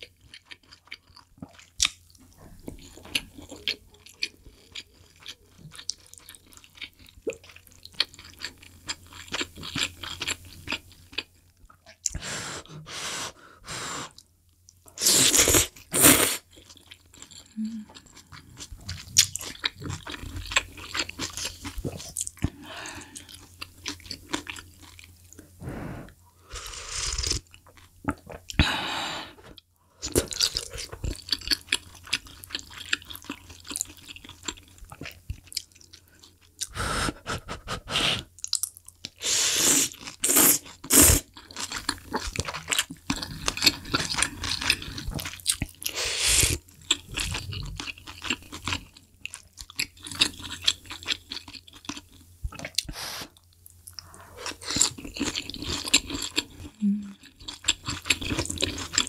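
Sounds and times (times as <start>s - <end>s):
chewing and crunching food: 0.0s - 12.2s, 14.1s - 25.5s, 26.1s - 28.6s, 29.5s - 39.2s, 39.8s - 59.0s.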